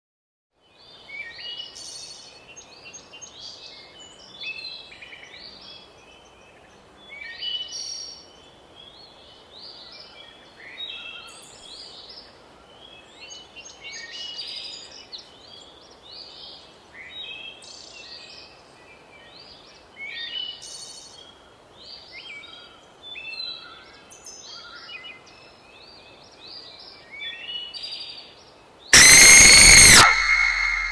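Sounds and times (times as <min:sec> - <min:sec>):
faint background hiss: 0:00.6 - 0:28.9.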